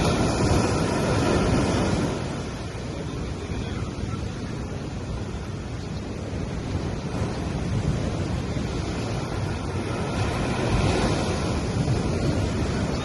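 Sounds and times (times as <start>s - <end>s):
waves washing onto sandy beach: 0.0s - 13.0s.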